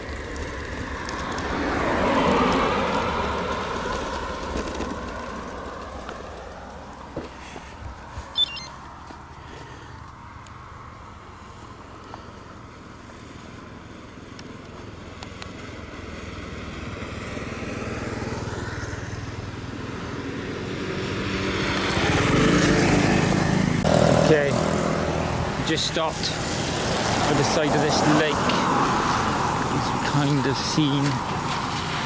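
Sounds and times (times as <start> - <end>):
motorcycle engine approaching: 0.0 - 9.4, 10.7 - 30.4.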